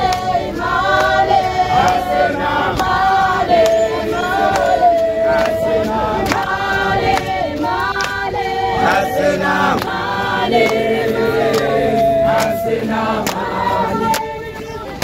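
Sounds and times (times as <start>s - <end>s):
crowd singing in chorus: 0.0s - 15.0s.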